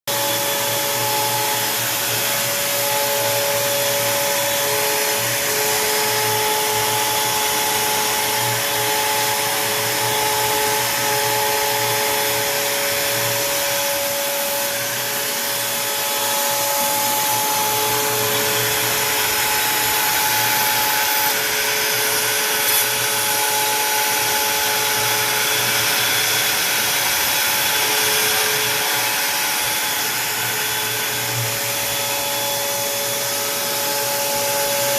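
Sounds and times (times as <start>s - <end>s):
router spindle whirring: 0.1s - 34.9s.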